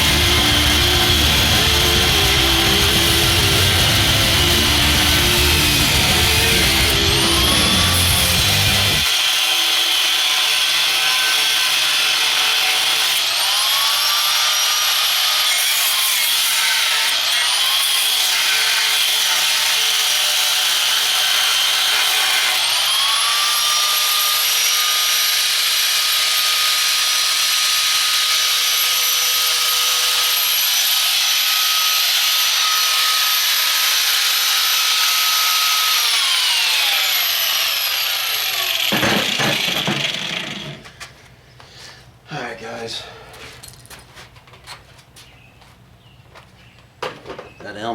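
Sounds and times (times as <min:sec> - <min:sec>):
angle grinder grinding metal: 0:00.0 - 0:40.9.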